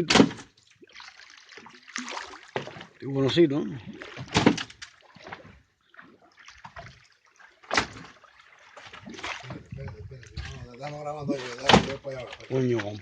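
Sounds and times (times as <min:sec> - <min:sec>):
loud splashes or knocks: 0:00.0 - 0:03.0, 0:03.7 - 0:13.0
water sloshing against boat: 0:00.0 - 0:13.0.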